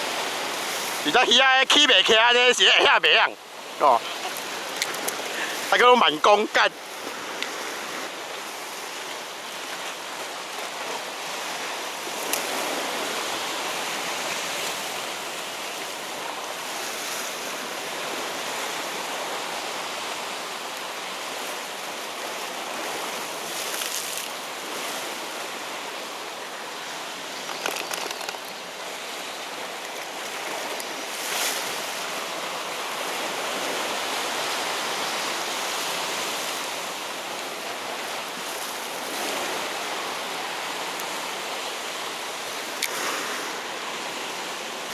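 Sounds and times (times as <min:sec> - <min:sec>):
sea waves against rocky shore: 0:00.0 - 0:44.9.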